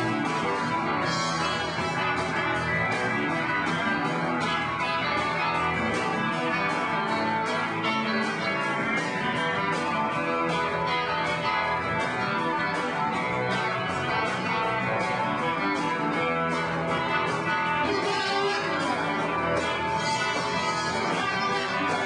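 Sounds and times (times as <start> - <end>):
electric guitar: 0.0 - 22.0
live rock band: 0.0 - 22.0.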